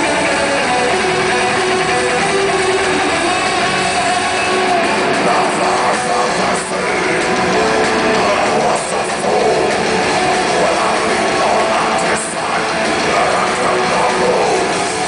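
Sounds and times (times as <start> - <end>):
live metal band playing: 0.0 - 15.0.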